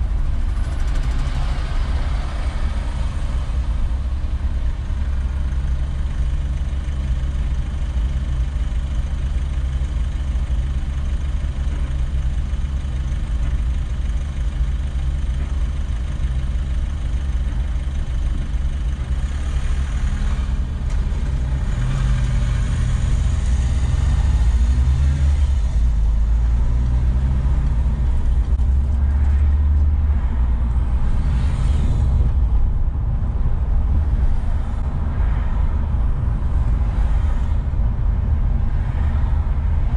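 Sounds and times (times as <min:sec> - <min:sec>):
car engine idling and accelerating: 0:00.0 - 0:39.9
road and traffic noise: 0:00.0 - 0:39.9.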